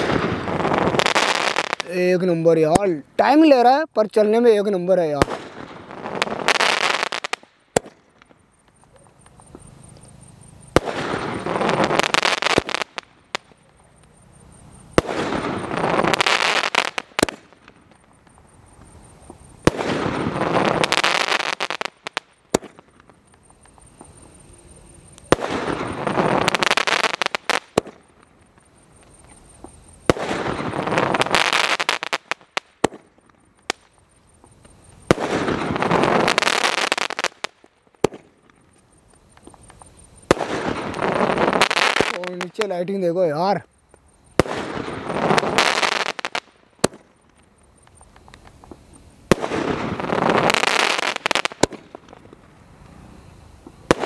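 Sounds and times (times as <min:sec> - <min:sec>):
firework shot crack: 0:00.0 - 0:02.9, 0:05.2 - 0:14.2, 0:14.9 - 0:24.4, 0:25.1 - 0:42.5, 0:44.3 - 0:53.0, 0:53.6 - 0:54.0
firework crackling hiss: 0:00.0 - 0:54.0.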